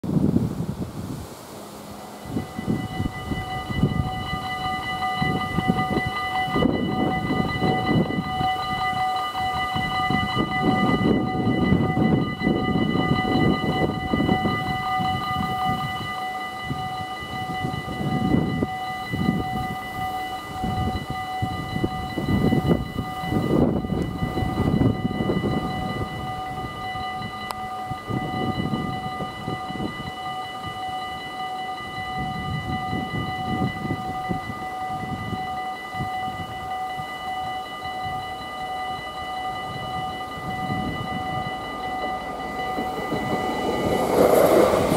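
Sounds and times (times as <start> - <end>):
train rumbling past: 0.1 - 44.9
level crossing bells ringing: 1.8 - 44.9.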